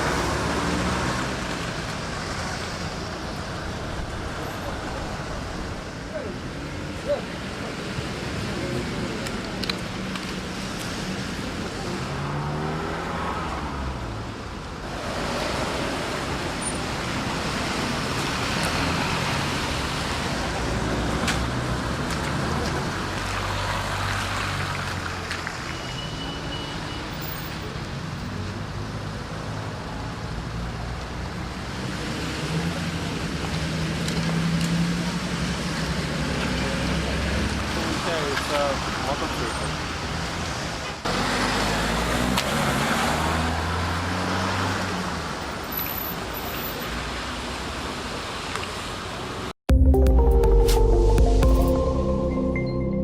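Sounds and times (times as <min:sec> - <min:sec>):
cars driving past: 0:00.0 - 0:49.5.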